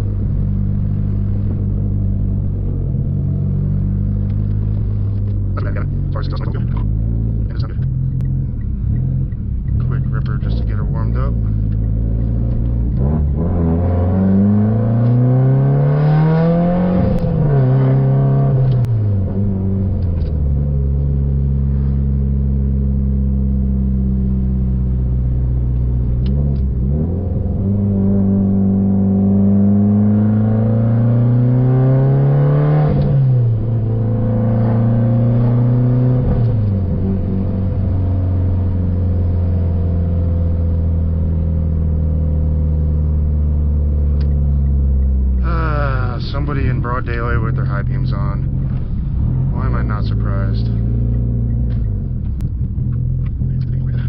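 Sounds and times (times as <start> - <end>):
car engine accelerating through gears: 0.0 - 54.0.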